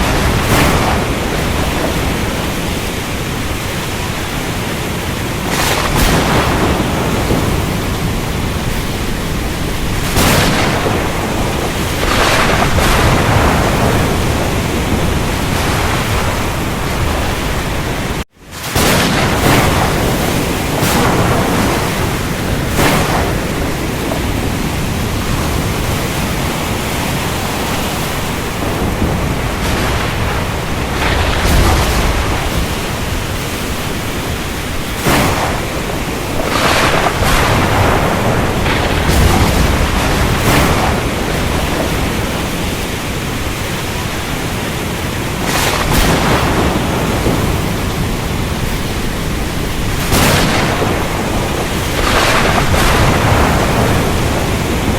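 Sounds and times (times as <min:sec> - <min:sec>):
heavy rain: 0:00.0 - 0:54.9
ocean surf: 0:00.0 - 0:54.9
thunder cracks: 0:00.0 - 0:54.9.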